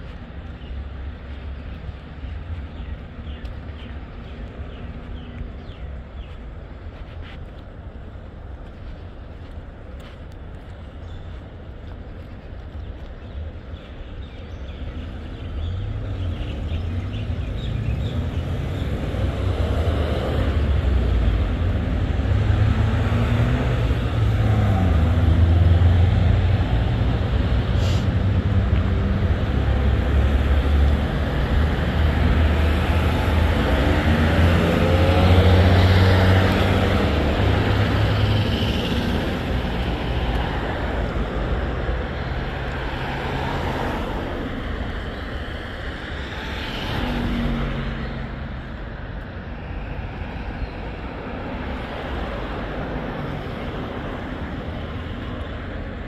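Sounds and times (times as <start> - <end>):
road vehicle rumble and hiss: 0.0 - 56.0.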